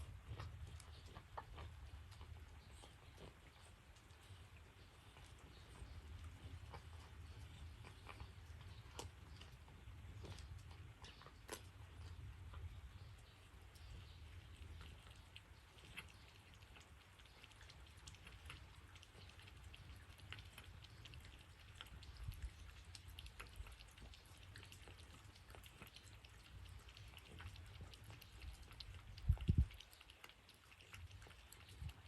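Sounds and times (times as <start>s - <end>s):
rain pattering and dripping: 0.0s - 32.0s.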